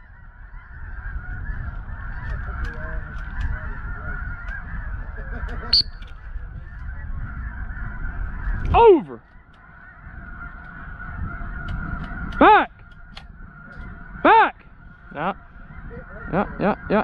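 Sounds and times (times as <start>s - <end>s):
flock of geese calling: 0.0s - 17.0s.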